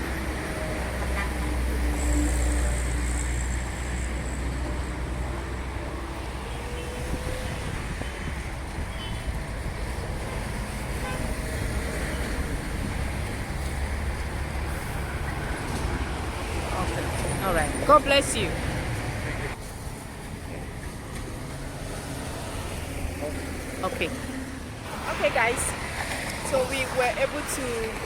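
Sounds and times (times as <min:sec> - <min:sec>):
motorway traffic rumble: 0:00.0 - 0:28.0.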